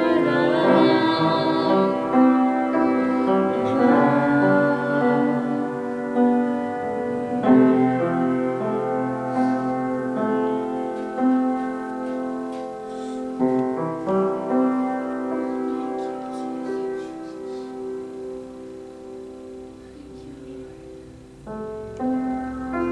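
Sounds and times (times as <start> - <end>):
slow keyboard chords: 0.0 - 22.9.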